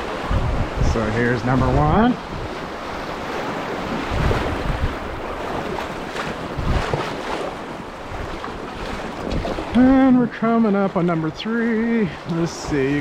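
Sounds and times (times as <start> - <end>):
river water rushing: 0.0 - 13.0
wind buffeting microphone: 0.0 - 13.0.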